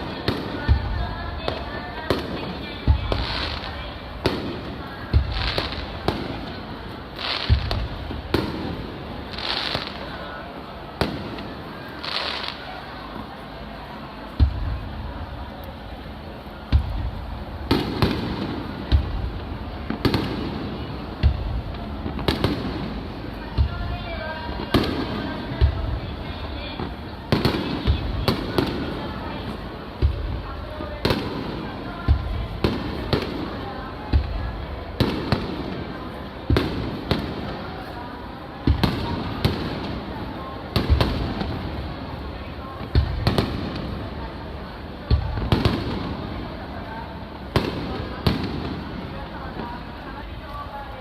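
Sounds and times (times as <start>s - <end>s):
firework crackling: 0.0s - 51.0s.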